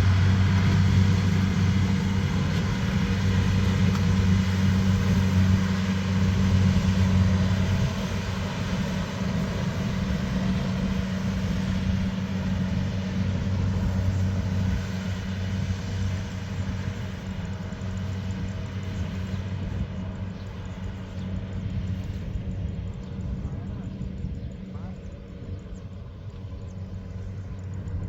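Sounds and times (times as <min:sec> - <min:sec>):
heavy machine engine droning: 0:00.0 - 0:28.0.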